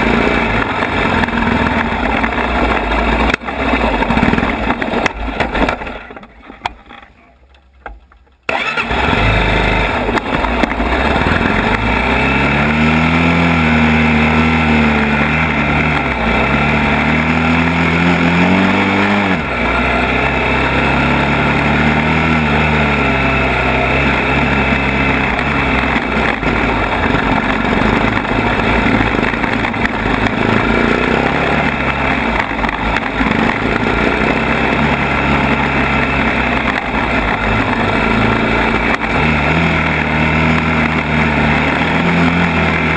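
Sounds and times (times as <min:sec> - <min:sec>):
atv engine revving: 0:00.0 - 0:07.1, 0:08.5 - 0:42.9.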